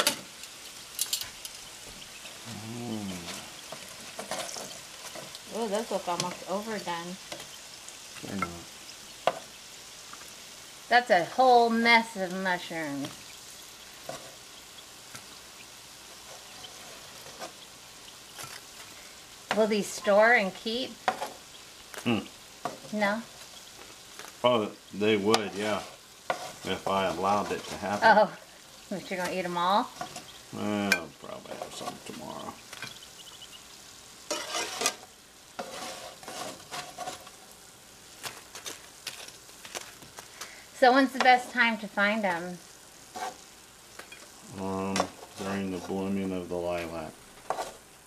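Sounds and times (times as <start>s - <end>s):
mushrooms sizzling in oil: 0.0s - 48.0s.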